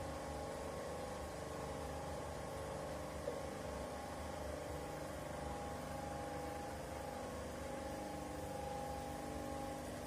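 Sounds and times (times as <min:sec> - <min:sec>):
machinery droning: 0:00.0 - 0:10.0.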